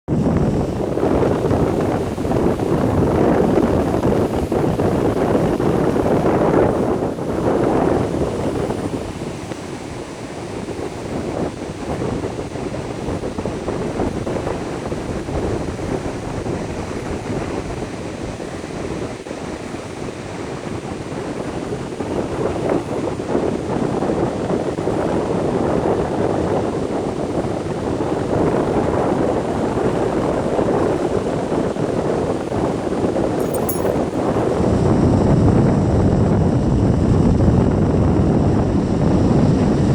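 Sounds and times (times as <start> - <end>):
wind buffeting microphone: 0.1 - 39.9.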